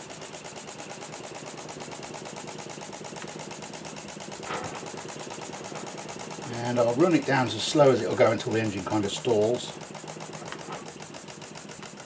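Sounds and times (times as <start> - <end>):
model steam engine exhaust beats: 0.0 - 12.0.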